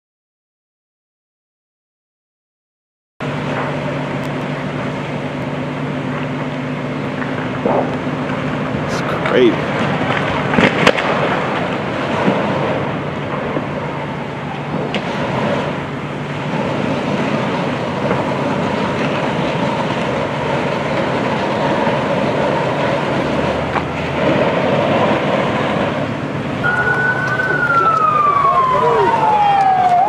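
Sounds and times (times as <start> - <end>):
fire cracks: 3.2 - 30.0
fire rushing noise: 3.2 - 30.0.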